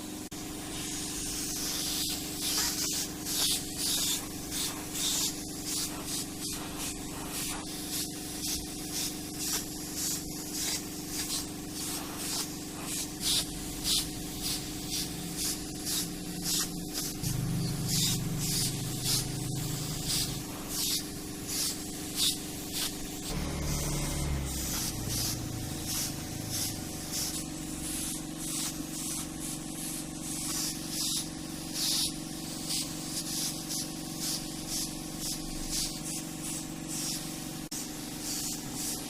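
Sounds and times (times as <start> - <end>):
paint spray gun hissing: 0.0 - 39.0
steady low hum: 0.0 - 39.0.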